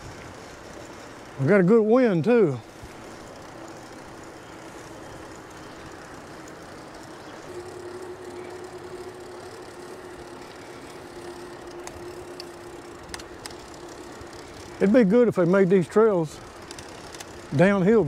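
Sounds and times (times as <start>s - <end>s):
electric motor hum: 0.0s - 18.0s
wind and tyre noise: 0.0s - 18.0s.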